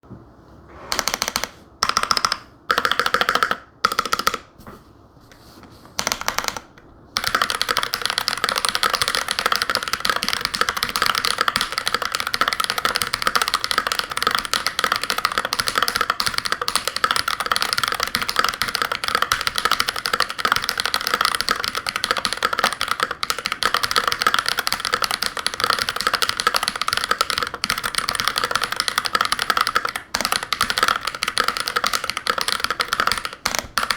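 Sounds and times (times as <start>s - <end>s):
mechanical keyboard typing: 0.9s - 4.5s, 6.0s - 33.9s.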